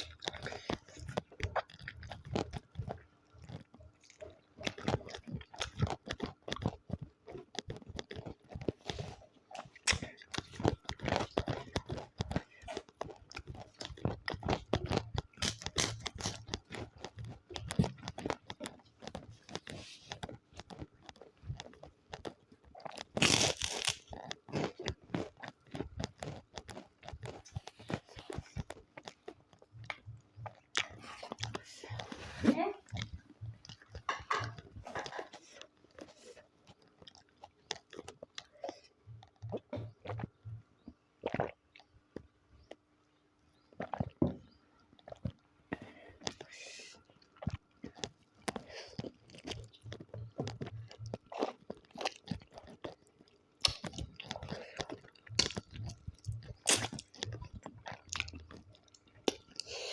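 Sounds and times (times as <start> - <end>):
chewing and crunching: 0.0 - 59.9.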